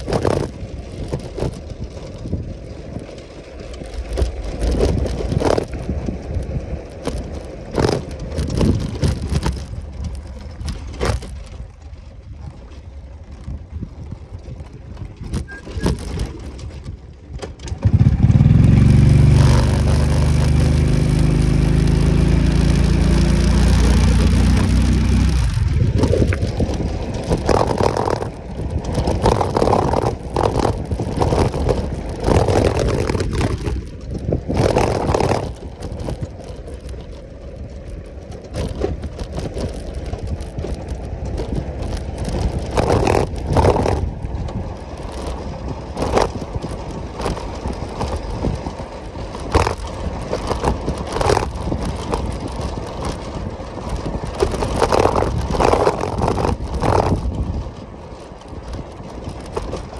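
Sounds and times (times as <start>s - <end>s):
knocks and rattles: 0.0s - 2.4s, 3.0s - 11.8s, 14.4s - 37.2s, 38.1s - 59.9s
gravel scrapes: 0.0s - 59.9s
motorcycle engine rumble: 0.0s - 59.9s.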